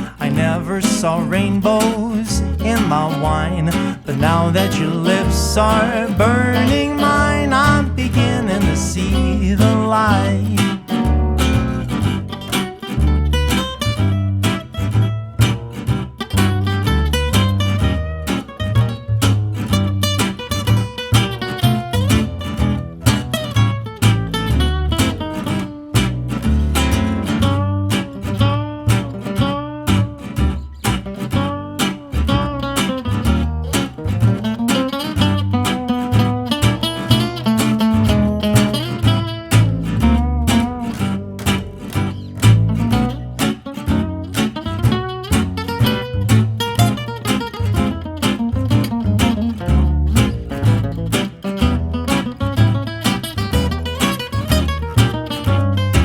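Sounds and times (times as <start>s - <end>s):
acoustic guitar strumming: 0.0s - 56.0s
bass line: 0.0s - 56.0s.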